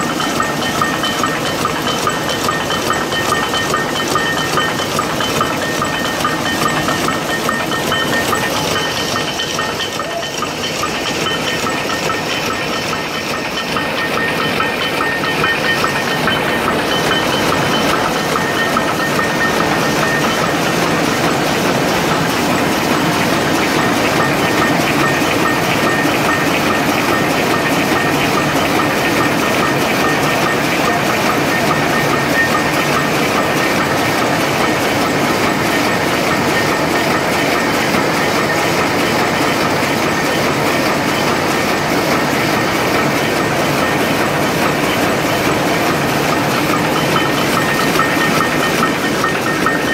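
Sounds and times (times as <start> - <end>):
loom mechanical clatter: 0.0 - 49.9.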